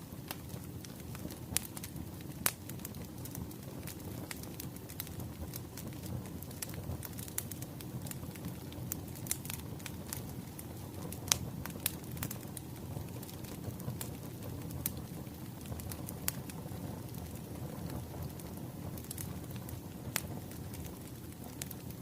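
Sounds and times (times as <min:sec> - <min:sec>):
fire low rumble: 0:00.0 - 0:22.0
wood fire crackling: 0:00.0 - 0:22.0.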